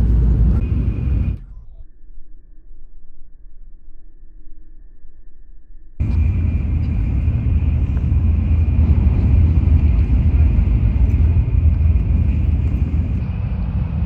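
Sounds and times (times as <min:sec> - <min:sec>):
low rumble of moving vehicle: 0:00.0 - 0:04.2, 0:05.8 - 0:14.0
faint high whine: 0:00.0 - 0:14.0.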